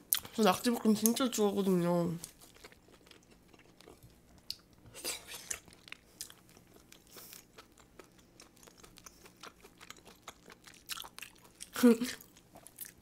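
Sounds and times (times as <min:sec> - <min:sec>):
chewing with smacking clicks: 0:00.1 - 0:00.4, 0:02.2 - 0:13.0.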